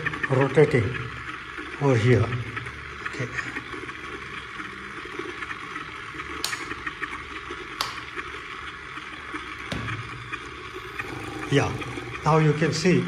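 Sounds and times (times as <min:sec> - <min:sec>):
small motor whirring: 0:00.0 - 0:13.0.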